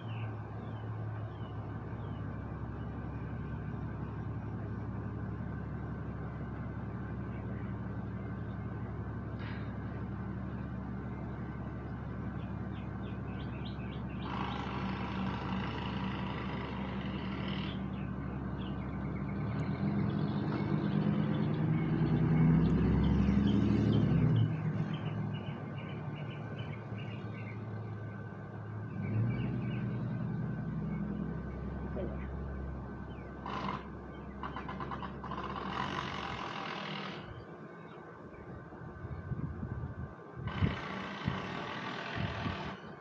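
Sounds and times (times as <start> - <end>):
small birds chirping: 0.0 - 36.1
vehicle engine passing by: 0.0 - 37.4.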